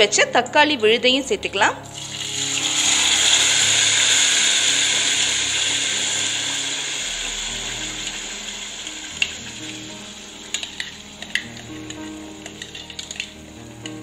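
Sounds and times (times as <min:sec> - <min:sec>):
paste sizzling in hot oil: 0:01.9 - 0:14.0.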